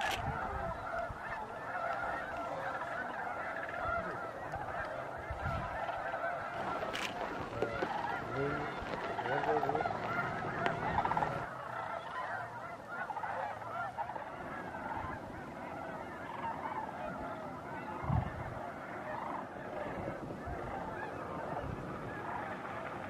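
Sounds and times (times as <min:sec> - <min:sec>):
flock of geese honking: 0:00.0 - 0:23.0.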